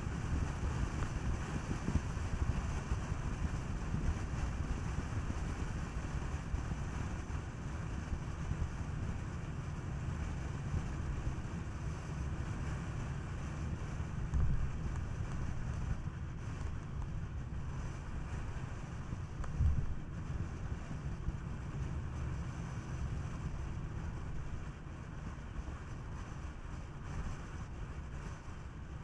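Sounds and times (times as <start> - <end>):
car wind and tyre noise: 0.0 - 29.0
wind buffeting microphone: 0.0 - 29.0.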